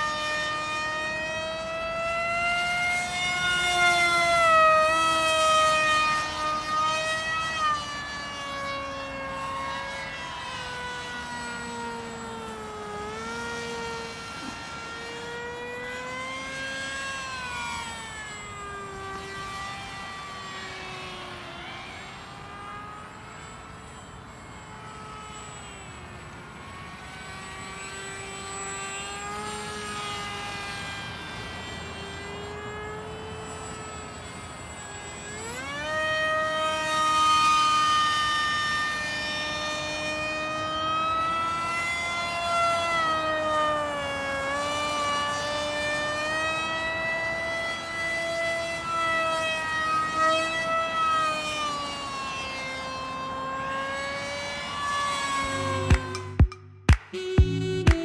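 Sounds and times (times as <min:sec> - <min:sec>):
electric motor propeller whining: 0:00.0 - 0:58.0.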